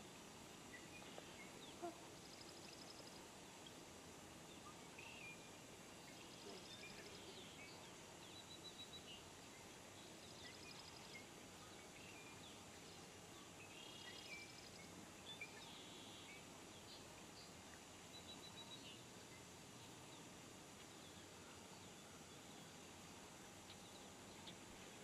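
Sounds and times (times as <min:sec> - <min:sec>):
steady hiss: 0:00.0 - 0:25.0
small birds chirping and trilling: 0:00.6 - 0:22.8.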